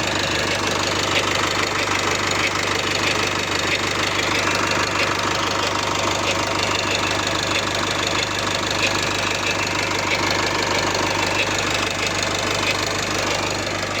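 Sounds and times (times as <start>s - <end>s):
diesel engine idling with ticking: 0.0s - 14.0s.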